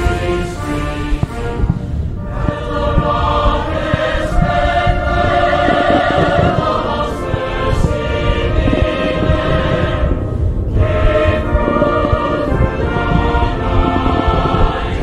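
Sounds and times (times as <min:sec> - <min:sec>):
orchestra playing: 0:00.0 - 0:09.8, 0:10.4 - 0:15.0
choir singing sustained chords: 0:00.0 - 0:15.0.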